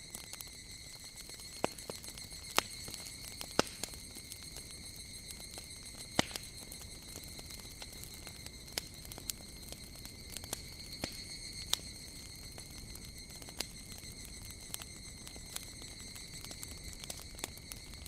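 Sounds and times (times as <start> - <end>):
cicadas droning: 0.0 - 18.0
wood fire crackling: 0.0 - 18.0.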